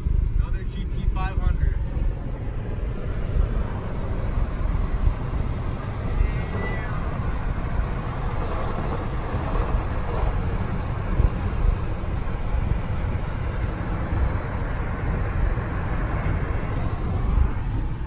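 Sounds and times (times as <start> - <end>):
road and wind rumble in car: 0.0 - 18.0.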